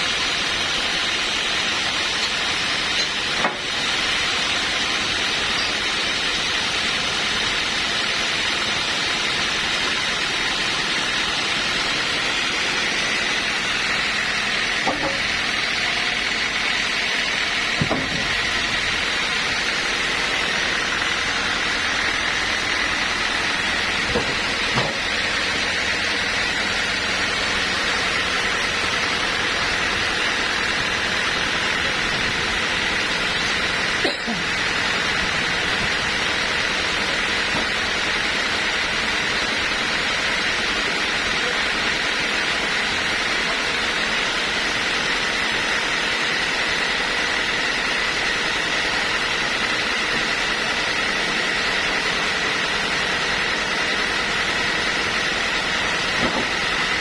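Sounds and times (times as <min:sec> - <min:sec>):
sawmill hiss and whine: 0:00.0 - 0:57.0.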